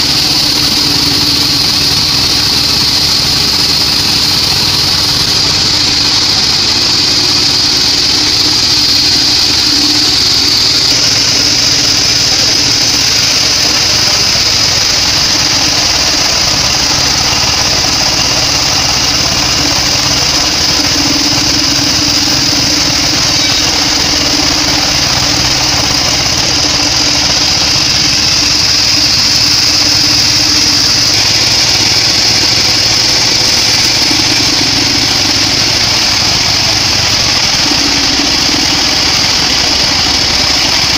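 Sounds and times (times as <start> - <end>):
bandsaw whining: 0.0 - 40.9
engine running: 0.0 - 40.9.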